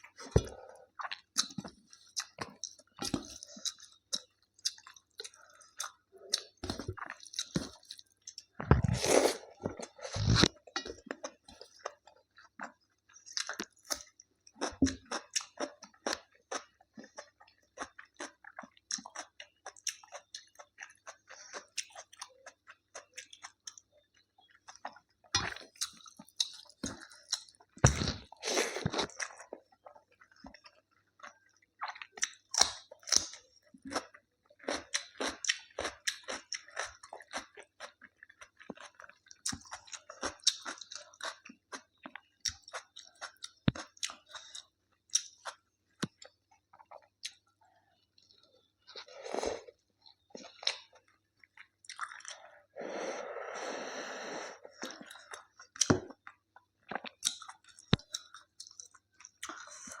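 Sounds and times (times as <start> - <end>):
person chewing with wet smacks: 0.0 - 52.5, 54.7 - 60.0.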